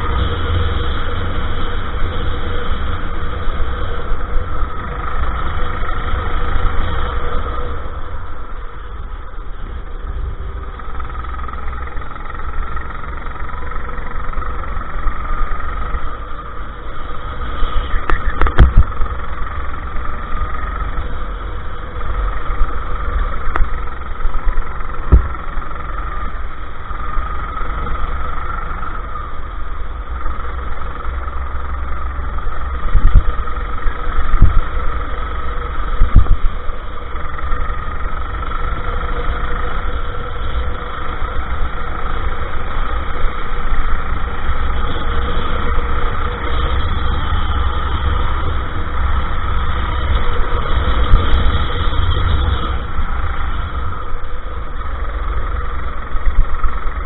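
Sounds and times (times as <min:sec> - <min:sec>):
go-kart engine running: 0:00.0 - 0:57.0
low rumble: 0:00.0 - 0:57.0.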